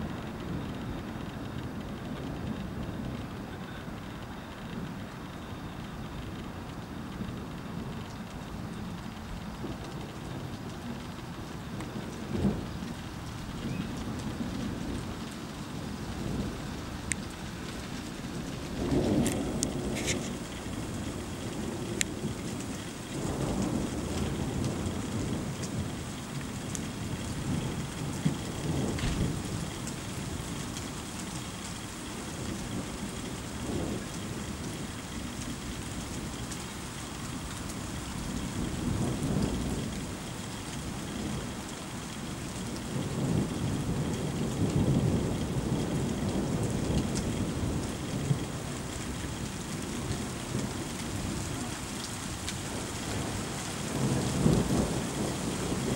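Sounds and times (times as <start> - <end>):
steady rain: 0.0 - 55.9
thunder rumbling: 0.1 - 55.9.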